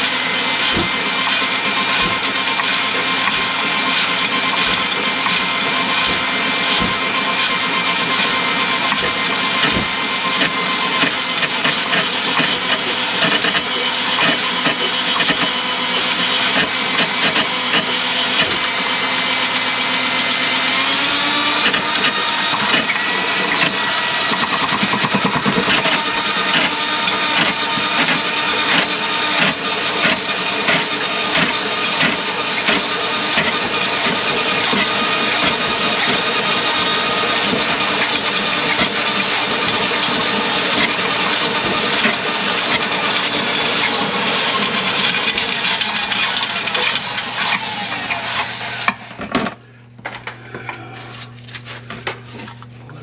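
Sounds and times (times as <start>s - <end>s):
drain-cleaning machine running: 0.0s - 53.0s
spinning cable knocking: 0.6s - 18.8s, 21.6s - 47.1s.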